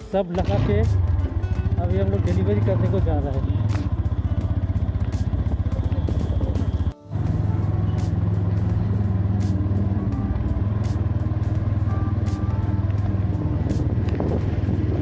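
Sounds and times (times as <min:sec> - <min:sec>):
motorcycle engine rumbling: 0:00.2 - 0:15.0.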